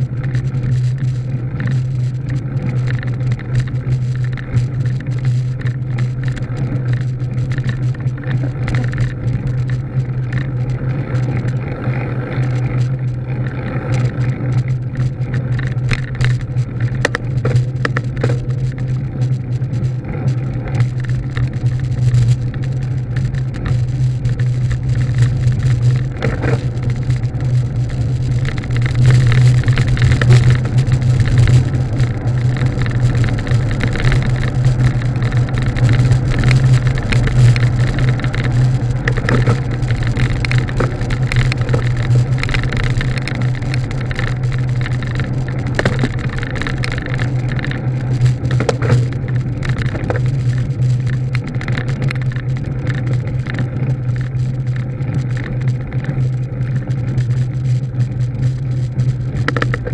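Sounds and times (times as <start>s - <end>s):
clicks and rattles: 0.0s - 59.9s
road and wind noise: 0.0s - 59.9s
vehicle engine drone: 0.0s - 59.9s.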